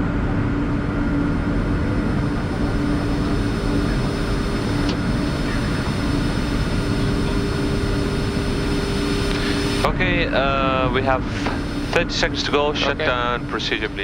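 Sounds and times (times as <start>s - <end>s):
jet engines idling rumble: 0.0s - 14.0s
steady hum: 0.0s - 14.0s.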